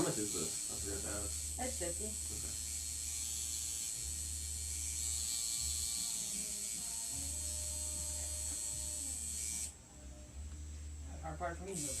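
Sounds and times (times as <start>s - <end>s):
electrical buzzing hum: 0.0s - 12.0s.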